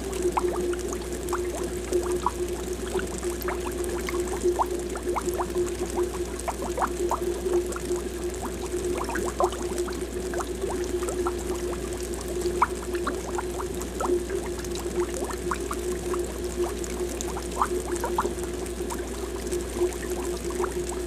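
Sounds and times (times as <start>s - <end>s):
aquarium air bubbles gurgling: 0.0s - 21.0s
steady hum: 0.0s - 21.0s.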